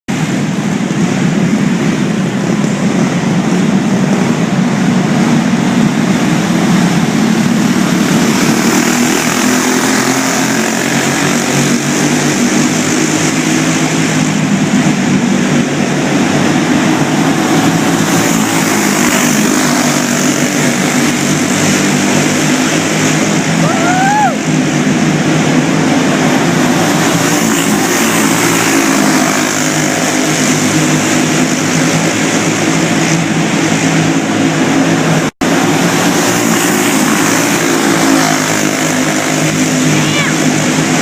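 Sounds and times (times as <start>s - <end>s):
go-kart engine buzzing: 0.1s - 41.0s.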